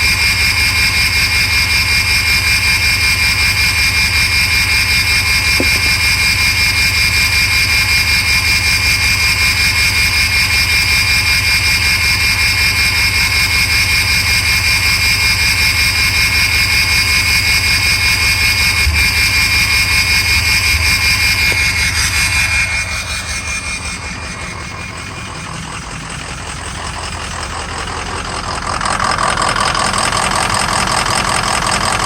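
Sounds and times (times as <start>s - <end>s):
steady high whine: 0.0s - 31.6s
diesel engine idling: 0.0s - 32.0s.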